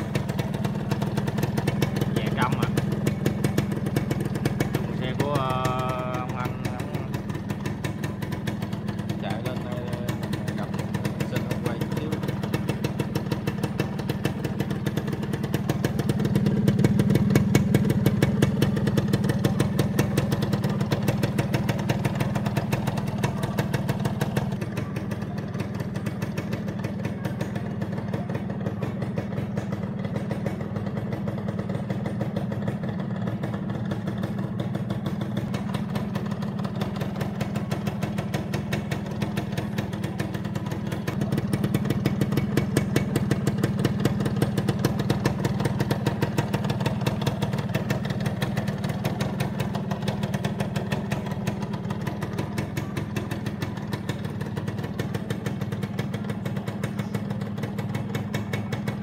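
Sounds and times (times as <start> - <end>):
two-stroke engine idling: 0.0 - 59.0.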